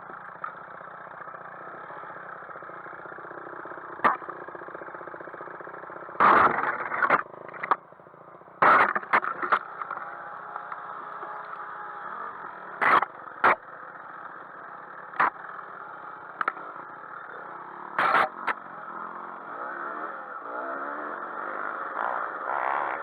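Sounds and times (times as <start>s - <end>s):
motorcycle engine revving: 0.0s - 7.8s, 8.6s - 23.0s
motorcycle engines running: 0.0s - 23.0s.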